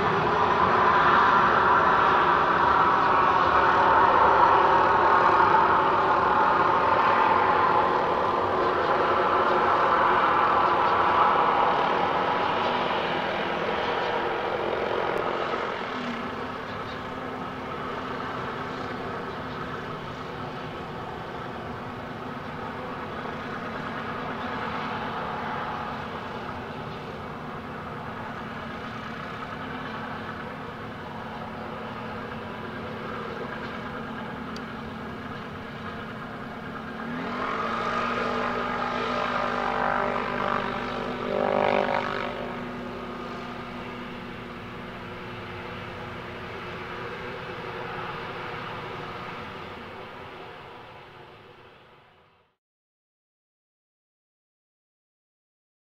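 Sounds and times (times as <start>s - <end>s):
jet engines at taxi power: 0.0s - 52.6s
rising engine tone: 0.0s - 52.6s.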